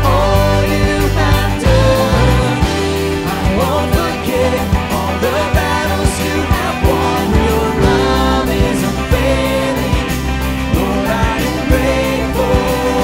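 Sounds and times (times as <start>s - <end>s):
worship band music: 0.0s - 13.0s
steady drum beat: 0.4s - 12.0s.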